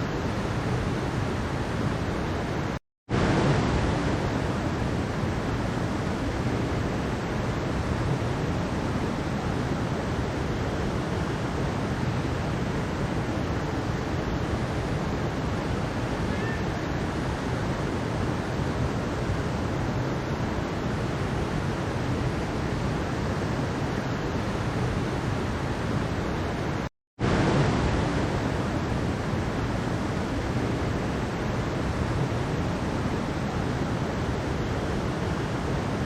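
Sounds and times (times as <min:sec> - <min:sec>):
mountain stream rushing: 0:00.0 - 0:36.0.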